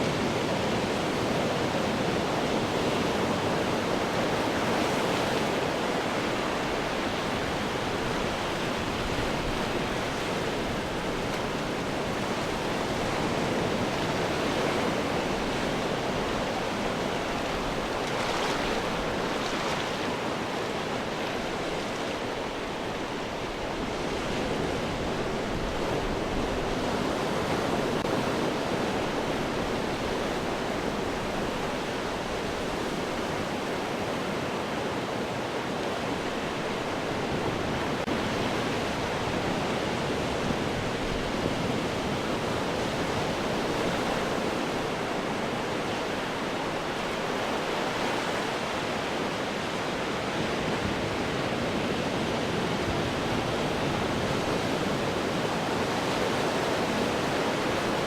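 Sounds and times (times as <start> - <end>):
ocean surf washing against rocks: 0.0 - 58.0.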